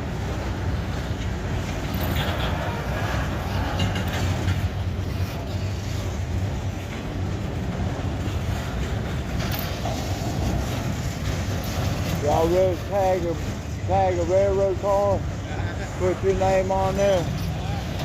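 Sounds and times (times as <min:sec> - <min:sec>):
freight train rumbling past: 0:00.0 - 0:18.0
wheels clicking and rattling: 0:00.0 - 0:18.0.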